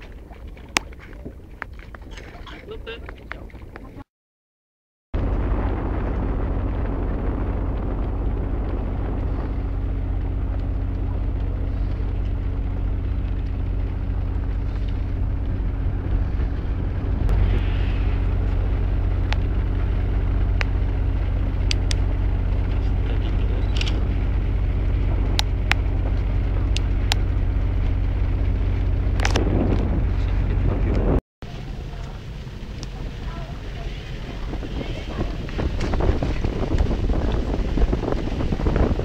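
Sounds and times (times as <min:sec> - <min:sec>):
boat engine droning: 0:00.0 - 0:04.0, 0:05.2 - 0:39.0.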